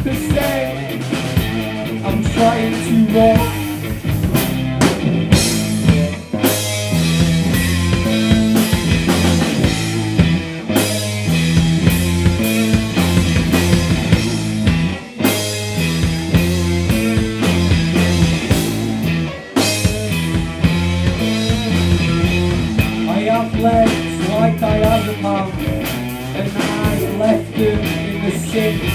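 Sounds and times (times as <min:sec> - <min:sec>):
drum kit: 0:00.0 - 0:28.9
electric bass: 0:00.0 - 0:28.9
lead electric guitar: 0:00.0 - 0:28.9.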